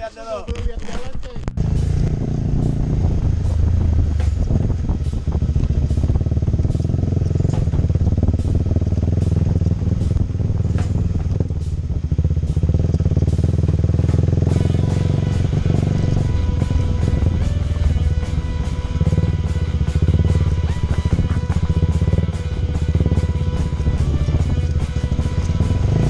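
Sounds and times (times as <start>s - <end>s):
motorcycle engine running: 1.3s - 26.0s.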